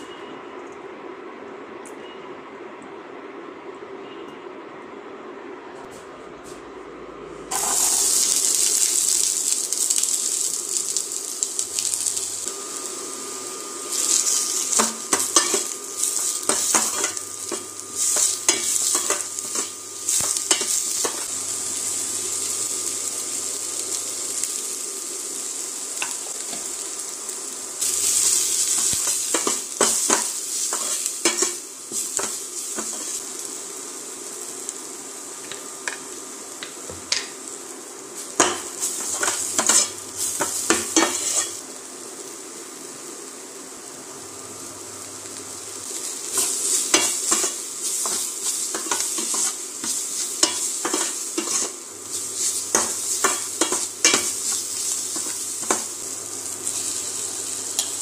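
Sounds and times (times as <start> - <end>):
onions sizzling in hot oil: 7.5 - 58.0.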